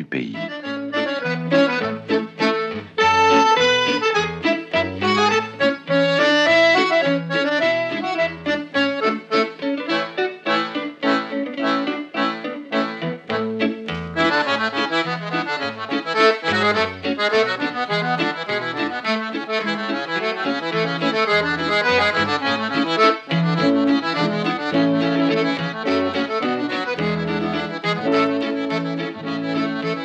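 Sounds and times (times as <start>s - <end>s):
accordion folk tune: 0.0s - 30.0s.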